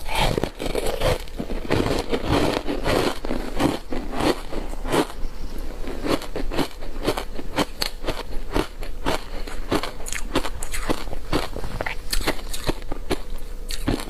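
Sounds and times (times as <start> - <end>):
person crunching ice: 0.0 - 5.2, 5.8 - 14.0.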